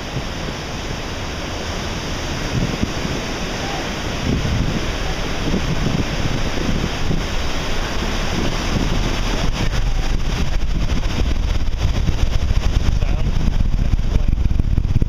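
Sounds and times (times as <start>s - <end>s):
distant rocket launch rumble: 0.0s - 15.0s
wind on microphone: 0.0s - 15.0s.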